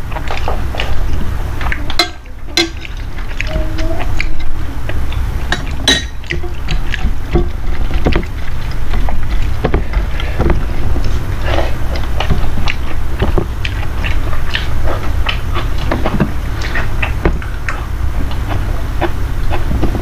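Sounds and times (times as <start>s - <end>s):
person chewing: 0.0s - 20.0s
steady low rumble: 0.0s - 20.0s.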